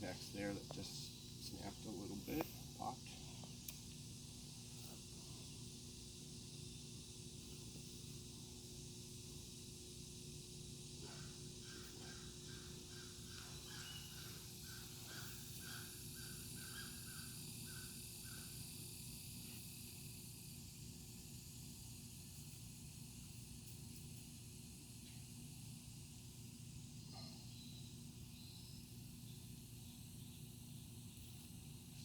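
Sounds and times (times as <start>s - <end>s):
faint outdoor hiss: 0.0s - 32.0s.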